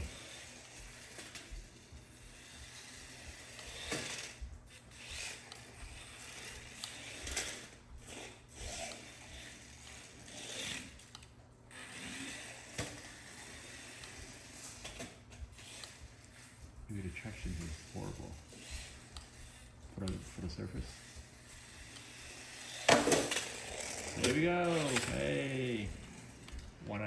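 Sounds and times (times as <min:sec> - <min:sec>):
toy car electric motor whirring: 0:00.0 - 0:27.0
wheels spinning on floor: 0:00.0 - 0:27.0.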